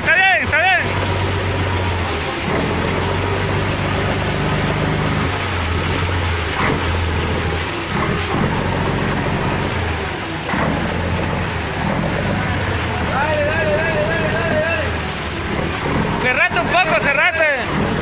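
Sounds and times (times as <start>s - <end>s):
heavy vehicle engine humming: 0.0s - 18.0s.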